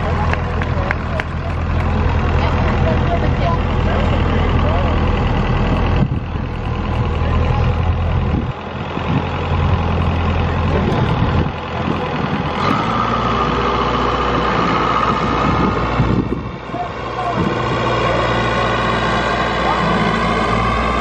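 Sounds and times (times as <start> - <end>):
truck diesel engine idling: 0.0 - 21.0.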